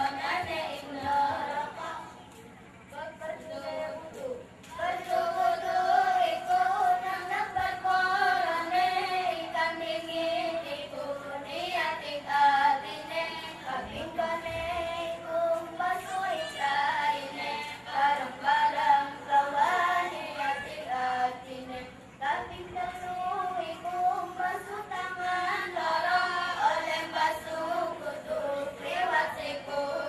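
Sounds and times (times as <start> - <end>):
children singing: 4.8 - 30.0.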